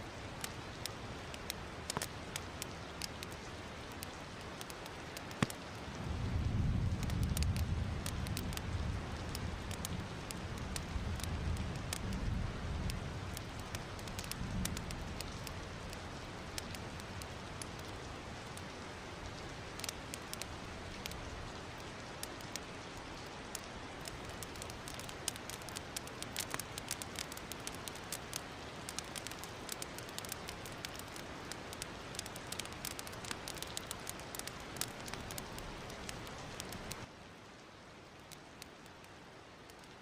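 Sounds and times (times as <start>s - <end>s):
wood fire crackling: 0.0s - 37.1s, 38.1s - 40.0s
fire popping and snapping: 0.2s - 18.8s, 19.4s - 37.1s.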